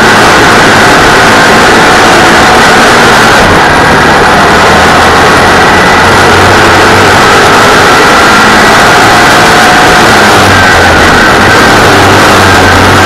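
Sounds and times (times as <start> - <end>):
racing car engine at high revs: 0.0 - 13.0
wind and road noise: 0.0 - 13.0.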